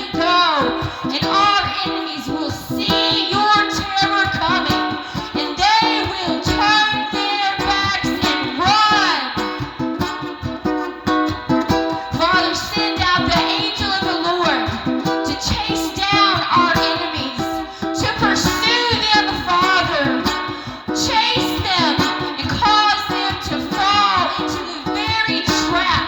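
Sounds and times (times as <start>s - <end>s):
person singing: 0.0s - 26.0s
strummed acoustic guitar: 0.0s - 26.0s.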